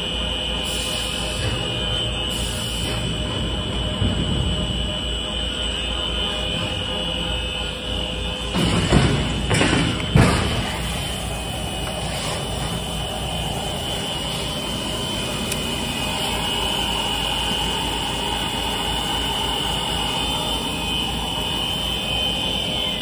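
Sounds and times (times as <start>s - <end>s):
high-pitched machine whine: 0.0s - 23.0s
machinery humming: 0.0s - 23.0s.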